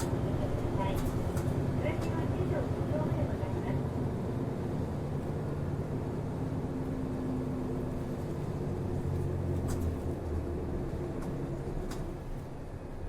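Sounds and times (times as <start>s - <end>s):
bus engine drone: 0.0s - 13.0s.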